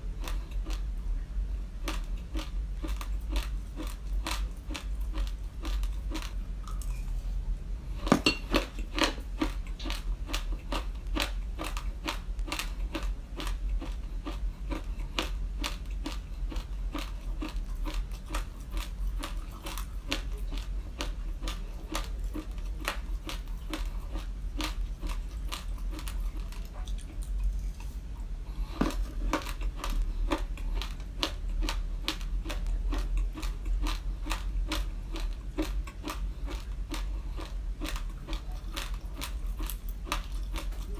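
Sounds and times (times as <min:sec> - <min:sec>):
steady low hum: 0:00.0 - 0:40.9
raw rice crunched and chewed: 0:01.8 - 0:07.3, 0:08.5 - 0:28.0, 0:28.6 - 0:40.9.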